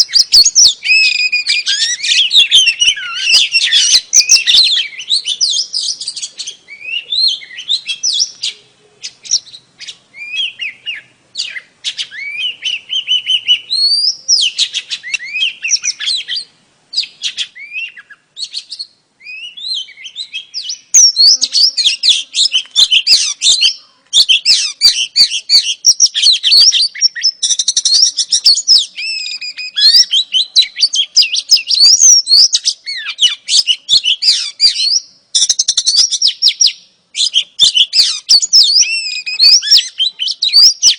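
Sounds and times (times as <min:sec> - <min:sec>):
bird chirping and warbling: 0:00.0 - 0:40.9.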